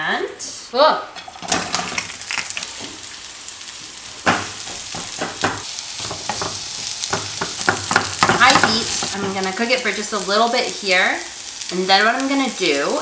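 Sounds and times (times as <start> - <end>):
onions sizzling in oil: 1.2 - 13.0.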